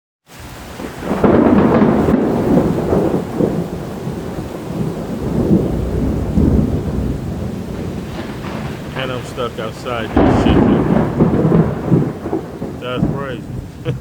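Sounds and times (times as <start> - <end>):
rain: 0.2 - 14.0
thunder rumbling: 0.4 - 14.0.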